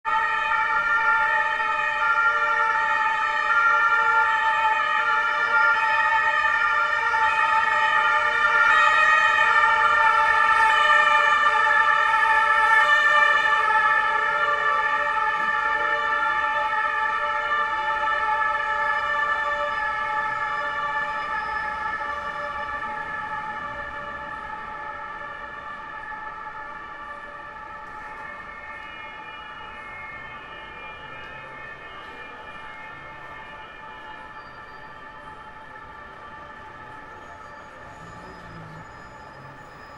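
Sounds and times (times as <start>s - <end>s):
police two-tone siren: 0.0s - 39.9s.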